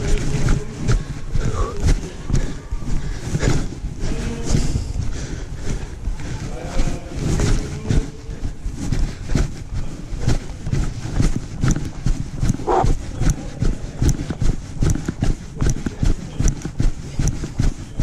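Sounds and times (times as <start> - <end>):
running footsteps on dirt trail: 0.0 - 18.0.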